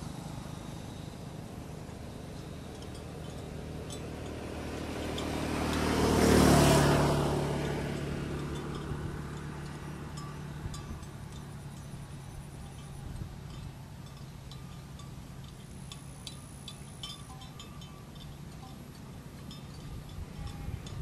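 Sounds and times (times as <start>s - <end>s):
low engine hum: 0.0s - 21.0s
motor vehicle passing by: 0.0s - 21.0s.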